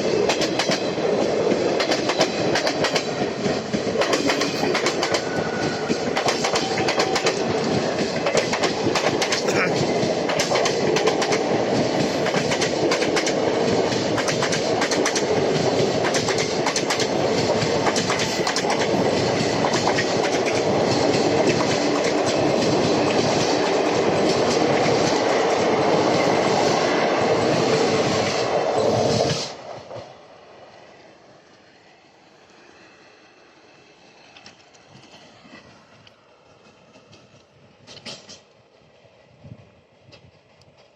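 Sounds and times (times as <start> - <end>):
train wheels clattering on rails: 0.0 - 30.2, 34.3 - 38.7.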